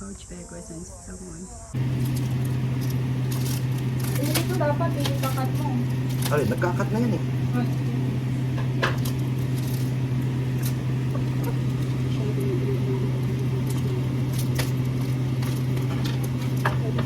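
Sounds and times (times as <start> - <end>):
steady low drone: 1.7 - 17.0.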